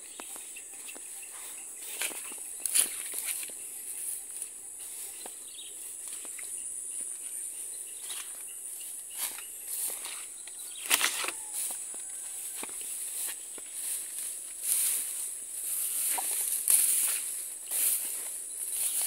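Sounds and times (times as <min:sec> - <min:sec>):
high-pitched insect drone: 0:00.0 - 0:19.0
footsteps swishing through grass: 0:00.2 - 0:07.3, 0:08.0 - 0:19.0.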